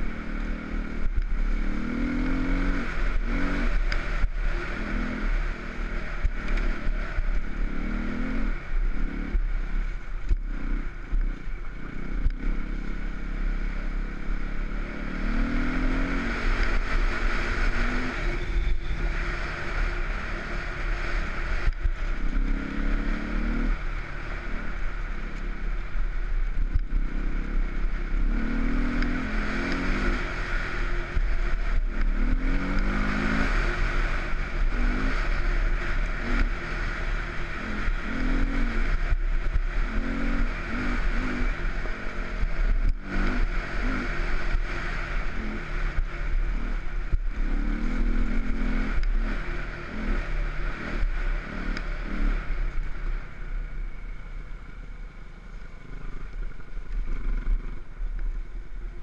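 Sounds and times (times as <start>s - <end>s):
motorcycle engine revving: 0.0s - 59.0s
ride noise rumble: 0.0s - 59.0s.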